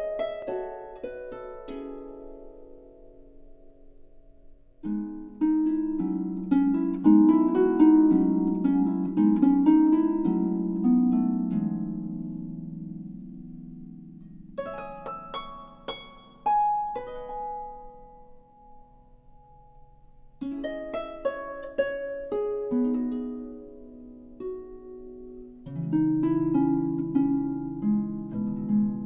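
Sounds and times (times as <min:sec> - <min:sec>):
plucked string music: 0:00.0 - 0:29.0.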